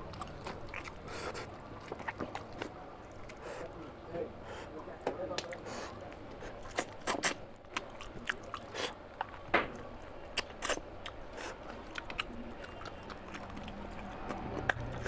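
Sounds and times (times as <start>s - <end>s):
man chewing with wet smacks: 0.0s - 3.8s, 5.1s - 15.0s.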